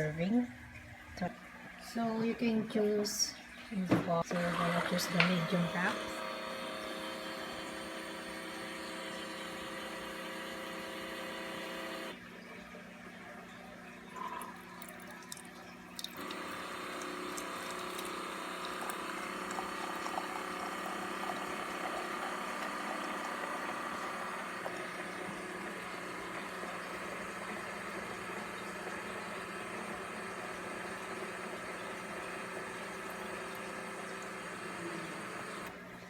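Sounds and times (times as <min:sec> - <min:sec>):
coffee maker pump humming: 0:03.8 - 0:12.2, 0:14.1 - 0:36.0
coffee streaming into cup: 0:04.3 - 0:12.2, 0:14.1 - 0:35.8.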